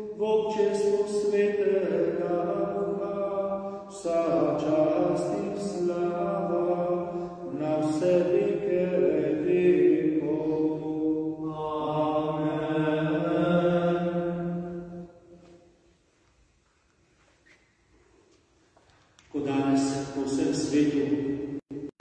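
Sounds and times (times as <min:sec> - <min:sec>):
man chanting in church: 0:00.0 - 0:15.9, 0:19.2 - 0:21.9.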